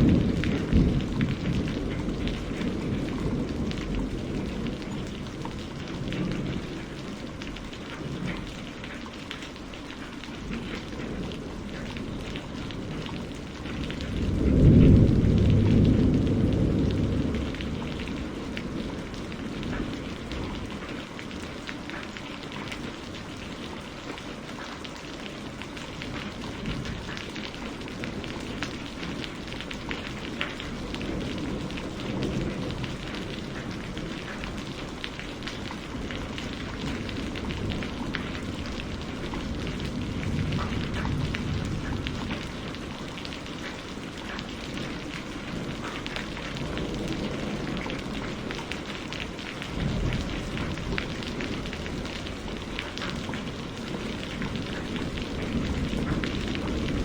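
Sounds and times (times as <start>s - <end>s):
thunder rumbling: 0.0s - 24.4s, 25.2s - 57.0s
steady rain falling: 0.0s - 57.0s.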